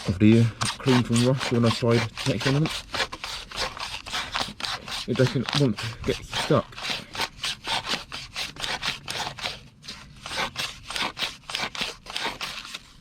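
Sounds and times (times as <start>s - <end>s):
sandpaper rubbing on metal: 0.0s - 13.0s.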